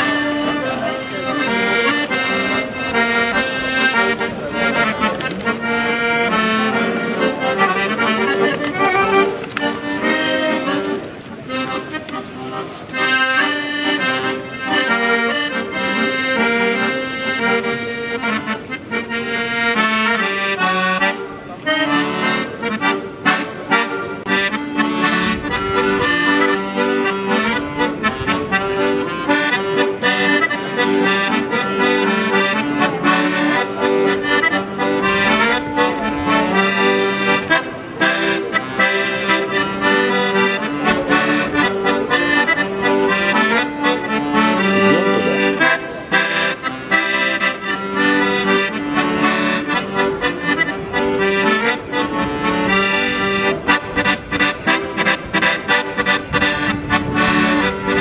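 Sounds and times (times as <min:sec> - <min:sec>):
accordion playing: 0:00.0 - 0:58.0.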